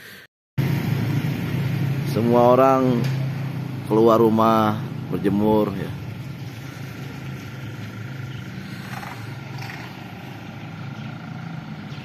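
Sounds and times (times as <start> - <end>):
road or wind noise: 0.2 - 12.0
vehicle engine humming: 0.6 - 12.0.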